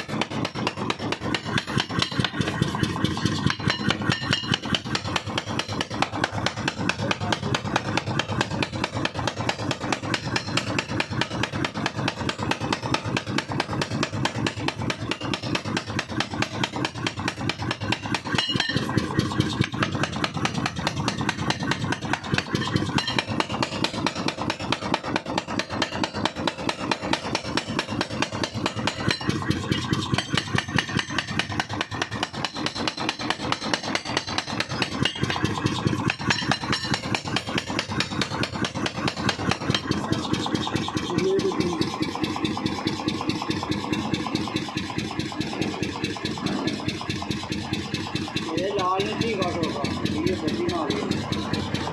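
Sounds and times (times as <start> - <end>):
machine drive drone: 0.0 - 51.9.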